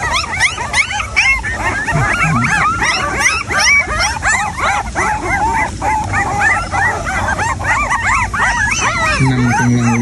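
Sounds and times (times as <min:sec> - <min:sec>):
puppies squealing and whimpering: 0:00.0 - 0:10.0.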